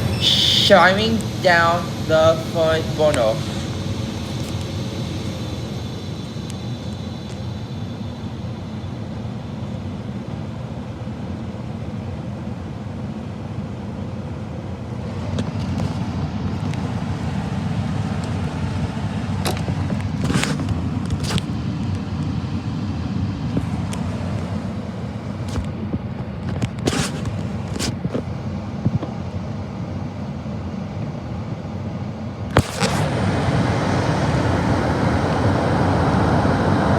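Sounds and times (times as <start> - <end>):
furnace fan motor running: 0.0 - 36.9.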